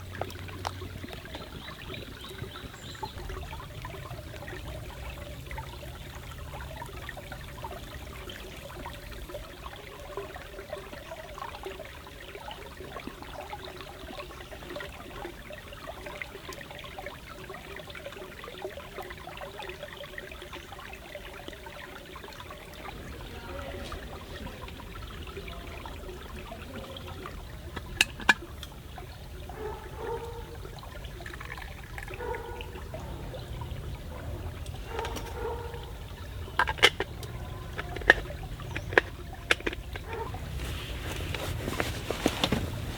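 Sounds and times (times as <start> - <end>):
stream trickling: 0.0 - 42.9.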